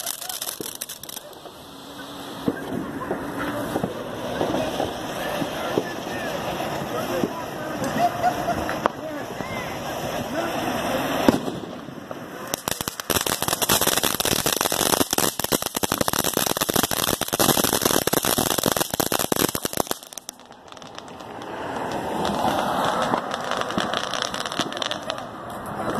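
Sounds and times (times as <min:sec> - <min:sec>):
firework crackling pops: 0:00.0 - 0:25.9.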